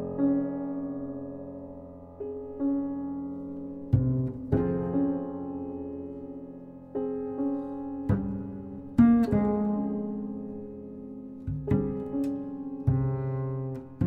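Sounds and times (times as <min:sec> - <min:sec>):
slow jazz piano chords: 0:00.0 - 0:14.0.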